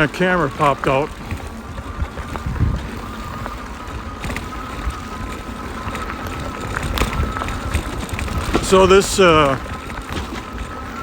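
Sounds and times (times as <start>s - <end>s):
bike knocking over bumps: 0.0s - 11.0s
electric motor whine: 0.0s - 11.0s
tyres and wind rumble: 0.0s - 11.0s.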